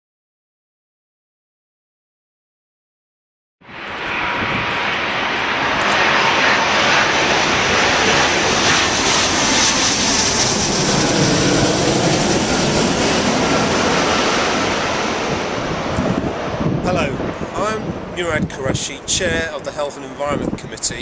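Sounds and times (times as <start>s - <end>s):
jet airliner flying overhead: 3.6s - 21.0s.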